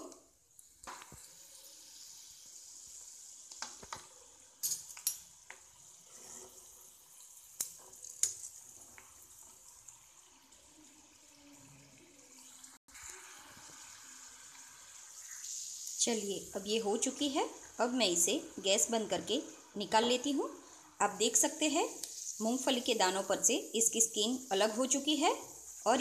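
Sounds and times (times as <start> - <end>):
peanuts sizzling in hot oil: 0.0 - 26.0.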